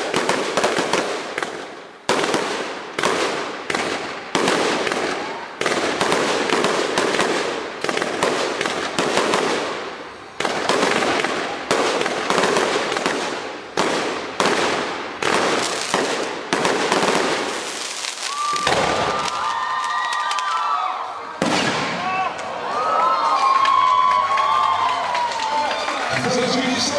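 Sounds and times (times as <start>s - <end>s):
fireworks bangs: 0.0s - 22.6s.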